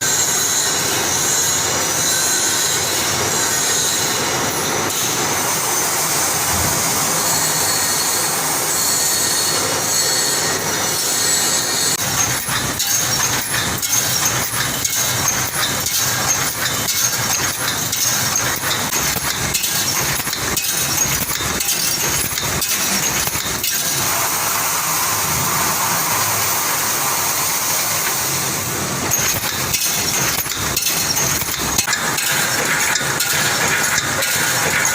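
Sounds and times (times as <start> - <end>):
welding machine running: 0.0 - 34.9.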